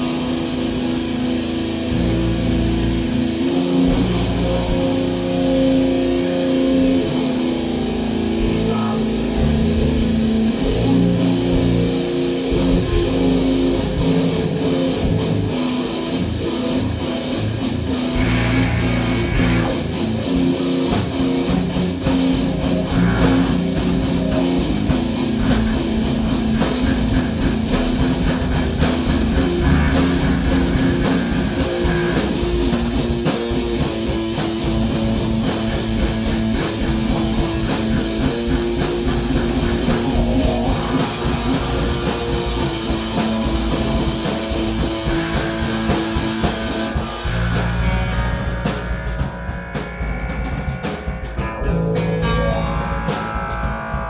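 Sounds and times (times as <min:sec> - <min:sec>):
rock band jamming: 0:00.0 - 0:54.0.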